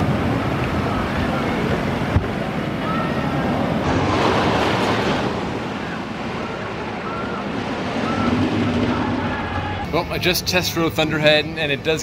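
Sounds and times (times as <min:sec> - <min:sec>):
roller coaster train rumbling: 0:00.0 - 0:12.0.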